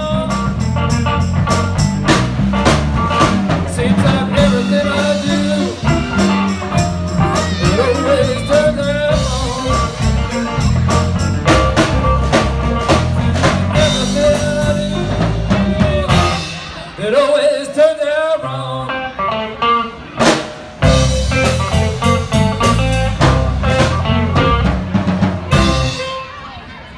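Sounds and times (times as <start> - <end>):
electric guitar lead line: 0.0 - 26.9
live blues band: 0.0 - 26.9.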